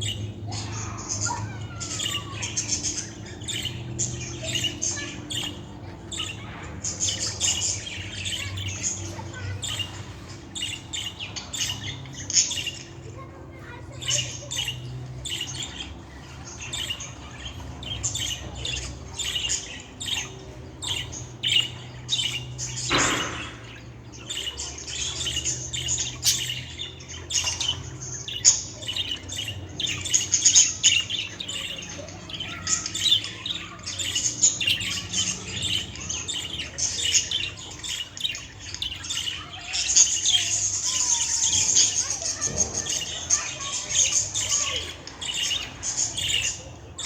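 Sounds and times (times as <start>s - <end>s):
budgerigar chirping: 0.0s - 47.0s.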